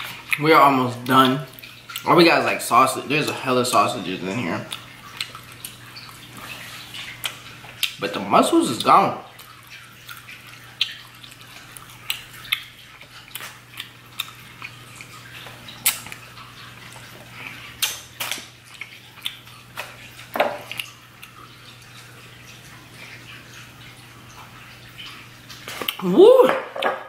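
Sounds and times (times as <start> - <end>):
wet chewing and lip smacks: 0.0 - 0.4, 1.0 - 2.1, 4.6 - 8.1, 8.8 - 26.0.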